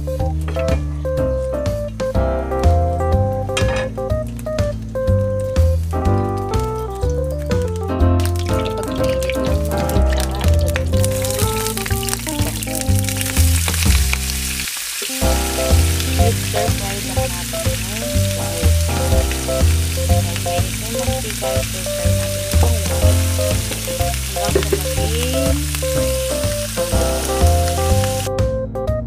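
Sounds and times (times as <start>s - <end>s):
background music: 0.0s - 29.0s
fish sizzling in a pan: 3.6s - 28.3s.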